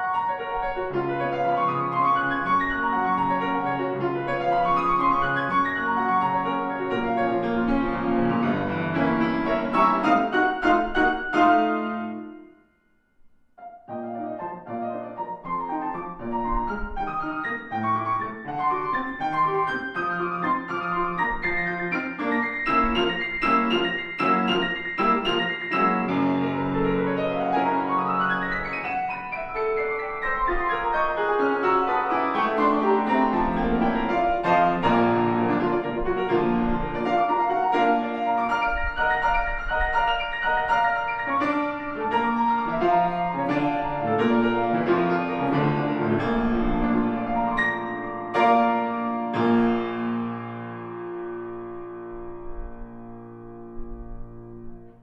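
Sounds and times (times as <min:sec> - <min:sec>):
grand piano classical solo: 0:00.0 - 0:12.7, 0:13.6 - 0:55.0.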